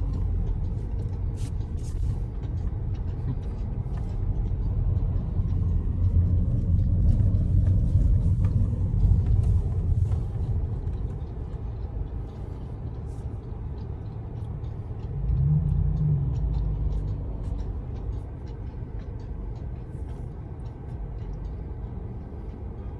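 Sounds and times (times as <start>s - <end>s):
car road noise from cabin: 0.0s - 22.9s.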